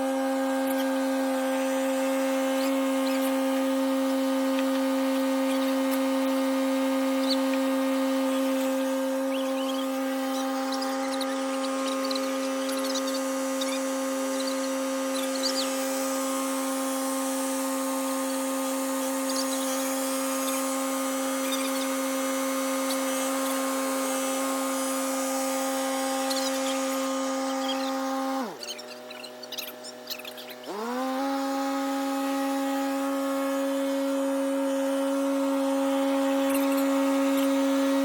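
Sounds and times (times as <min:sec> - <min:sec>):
machine motor whining: 0:00.0 - 0:38.0.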